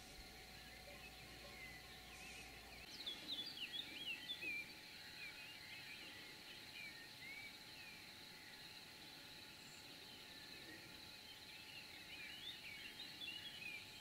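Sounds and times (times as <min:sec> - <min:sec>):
faint high-pitched whine: 0:00.0 - 0:14.0
songbird chirping: 0:00.0 - 0:14.0.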